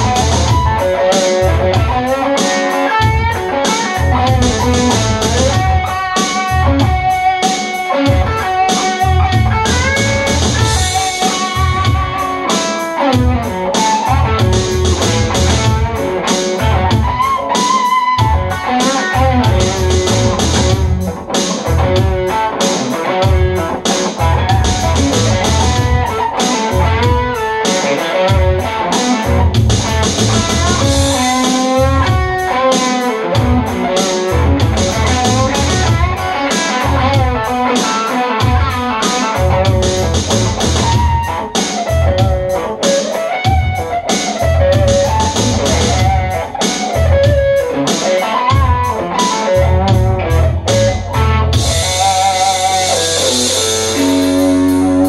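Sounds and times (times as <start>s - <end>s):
electric guitar lead: 0.0s - 55.0s
rock beat of bass and drums: 0.0s - 55.0s.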